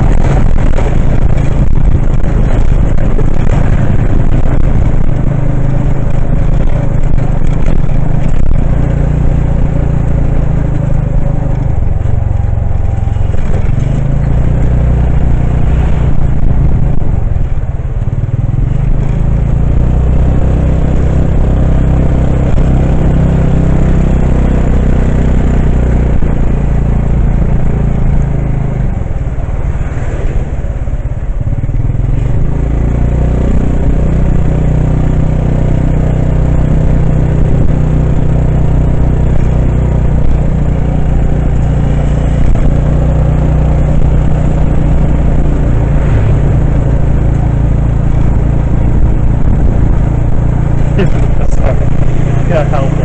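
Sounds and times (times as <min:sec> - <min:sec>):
motorcycle engine droning: 0:00.0 - 0:53.0.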